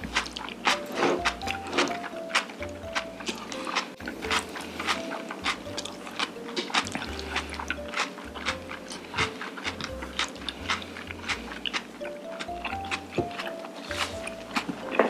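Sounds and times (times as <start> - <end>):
wet chewing mouth smacks: 0.0 - 15.0.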